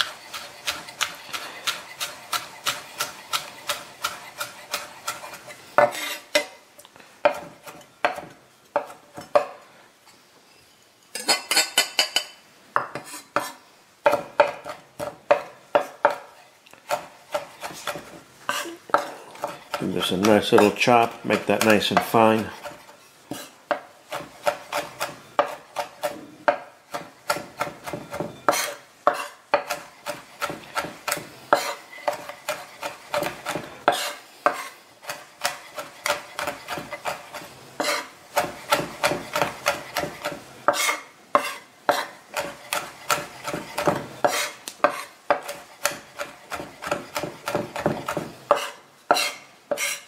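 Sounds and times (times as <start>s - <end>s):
knife chopping on wooden board: 0.0s - 6.6s, 7.2s - 9.6s, 12.8s - 16.3s, 16.9s - 50.0s.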